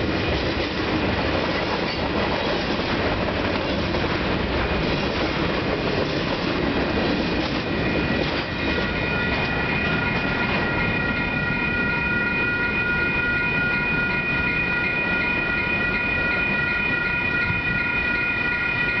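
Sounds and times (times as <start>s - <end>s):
crossing warning bell ringing: 0.0s - 19.0s.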